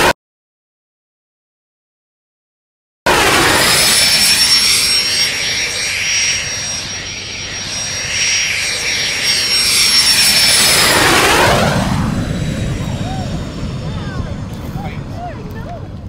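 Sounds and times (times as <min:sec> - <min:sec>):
jet engine whining overhead: 0:03.1 - 0:16.0.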